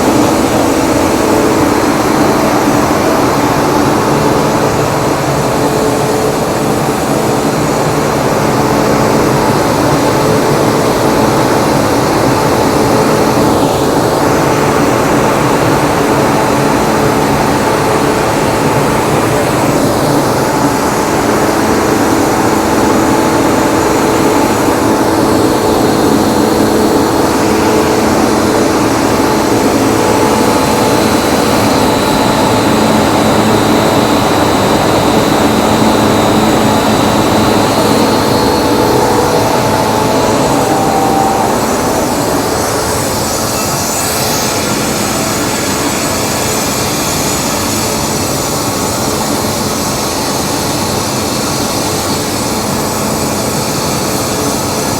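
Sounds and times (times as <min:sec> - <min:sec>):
air compressor drone: 0:00.0 - 0:54.9
high whine: 0:00.0 - 0:54.9.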